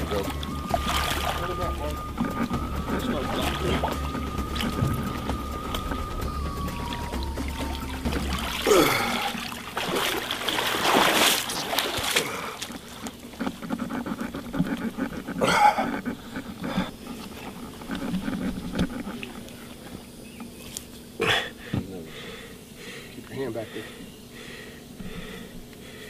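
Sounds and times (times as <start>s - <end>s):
water splashing and sloshing: 0.0s - 21.1s.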